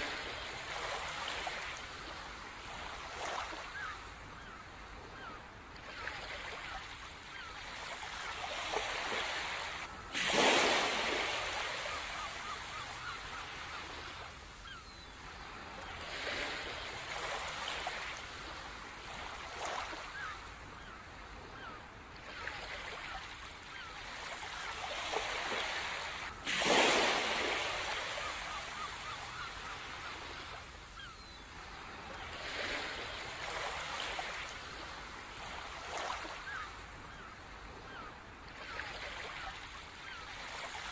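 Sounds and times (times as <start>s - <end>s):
waves crashing: 0.0s - 4.5s, 5.1s - 20.4s, 22.3s - 37.3s
ocean waves: 0.0s - 40.9s.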